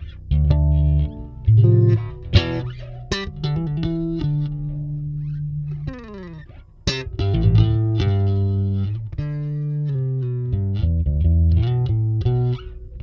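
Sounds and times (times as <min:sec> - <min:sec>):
electric bass notes: 0:00.0 - 0:13.0.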